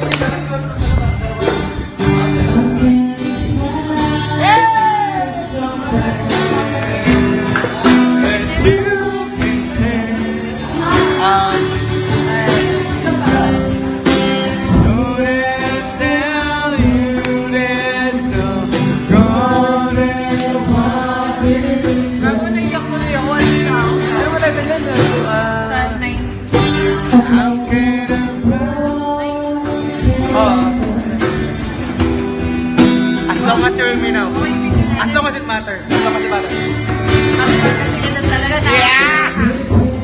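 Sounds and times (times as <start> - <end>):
acoustic guitar strumming: 0.0 - 40.0
person singing: 2.0 - 31.9, 37.4 - 40.0.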